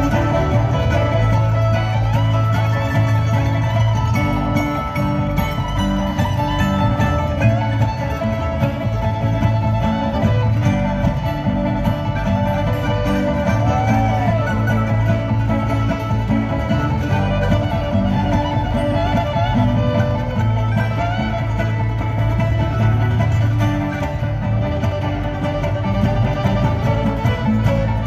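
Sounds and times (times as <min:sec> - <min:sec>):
banjo: 0:00.0 - 0:28.0
bowed fiddle: 0:00.0 - 0:28.0
mandolin: 0:00.0 - 0:28.0
upright bass: 0:00.0 - 0:28.0.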